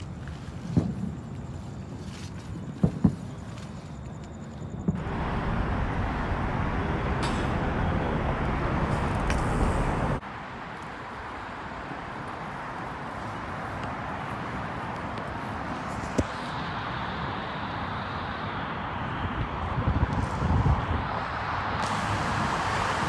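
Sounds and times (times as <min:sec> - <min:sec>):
wind: 0:00.0 - 0:23.0
traffic rushing: 0:04.2 - 0:23.0.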